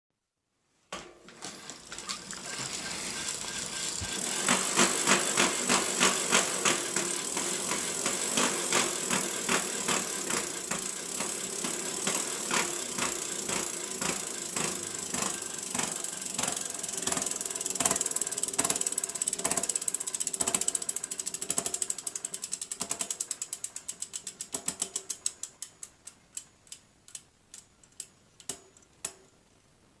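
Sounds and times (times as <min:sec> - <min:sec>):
bike hub grinding: 0:01.5 - 0:25.8
freehub clicking: 0:01.8 - 0:29.2.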